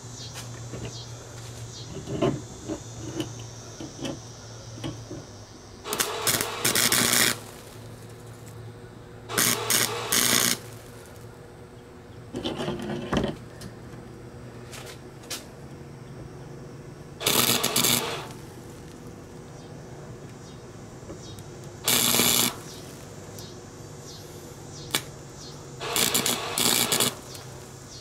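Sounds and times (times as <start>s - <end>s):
welder arc crackling: 0.0s - 11.8s, 17.0s - 28.0s
steady low hum: 0.0s - 28.0s.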